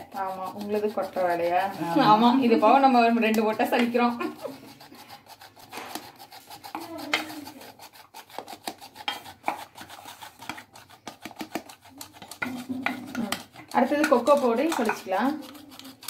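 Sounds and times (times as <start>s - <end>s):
cup scraping flour in a bowl: 0.0s - 16.0s.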